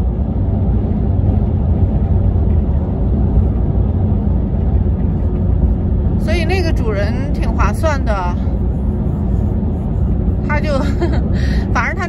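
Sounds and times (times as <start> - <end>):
car road rumble from inside: 0.0 - 12.0.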